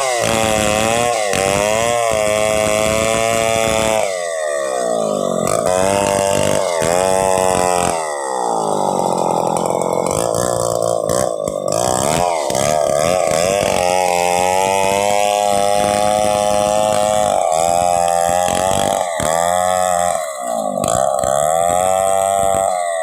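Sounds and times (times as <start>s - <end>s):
chainsaw cutting log: 0.0s - 23.0s.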